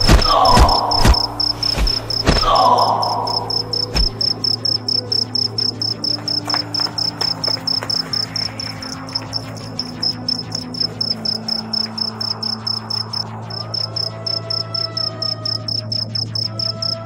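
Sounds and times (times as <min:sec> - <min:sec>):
cricket chirping: 0:00.0 - 0:17.0
low steady drone: 0:00.0 - 0:17.0.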